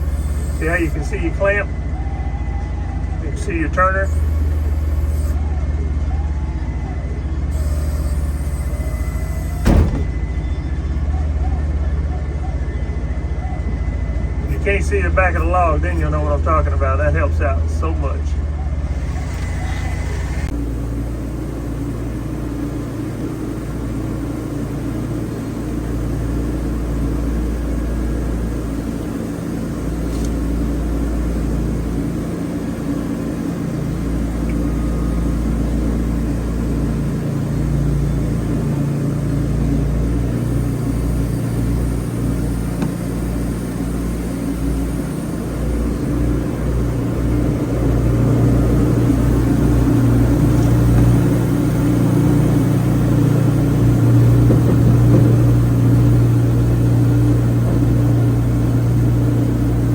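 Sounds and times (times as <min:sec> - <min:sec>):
sawmill engine droning: 0:00.0 - 0:59.9.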